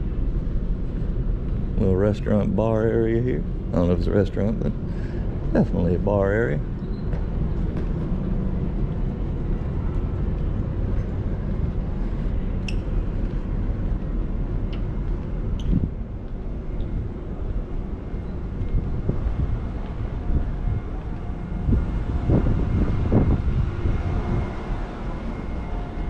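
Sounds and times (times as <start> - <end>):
low rumbling ambient noise: 0.0 - 26.0.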